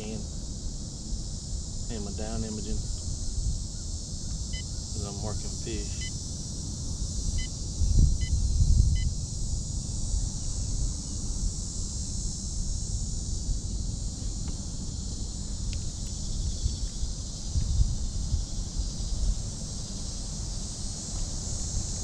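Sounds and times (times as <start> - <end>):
high-pitched insect chorus: 0.0 - 22.0
wind rumble on microphone: 0.0 - 22.0.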